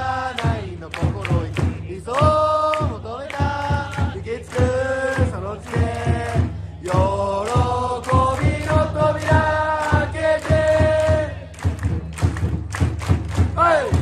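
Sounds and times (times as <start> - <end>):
crowd singing in unison: 0.0 - 12.5, 13.3 - 14.0
crowd clapping in time: 0.0 - 14.0.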